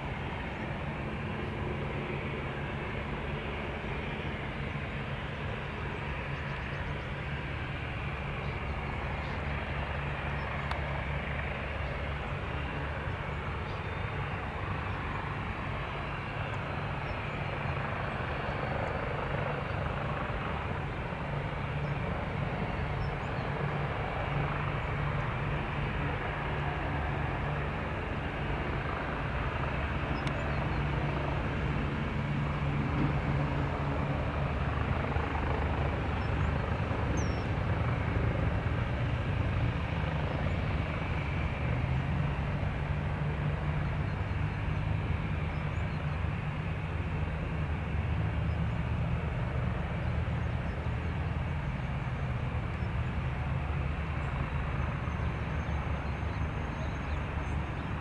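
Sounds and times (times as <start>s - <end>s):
aircraft engines rumbling: 0.0s - 58.0s.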